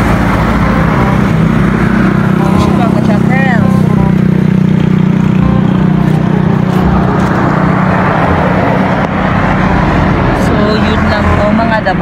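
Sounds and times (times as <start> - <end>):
rushing traffic noise: 0.0 - 12.0
vehicle engine humming: 0.0 - 12.0.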